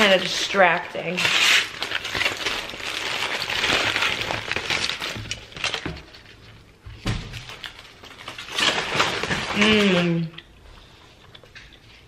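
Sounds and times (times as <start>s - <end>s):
foil crinkling and rustling: 0.0s - 10.4s.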